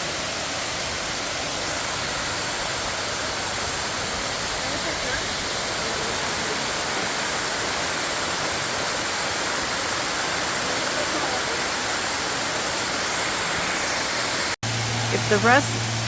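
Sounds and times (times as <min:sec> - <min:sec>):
waterfall pouring: 0:00.0 - 0:16.0.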